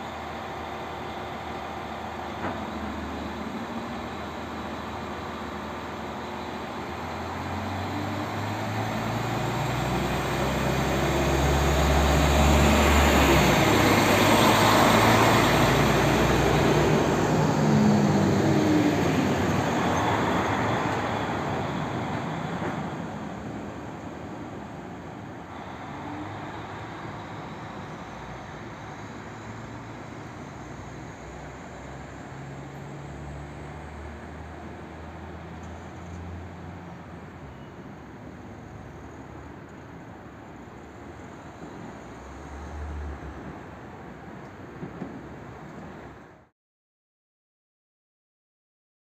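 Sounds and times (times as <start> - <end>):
diesel train engine accelerating: 0.0 - 46.5.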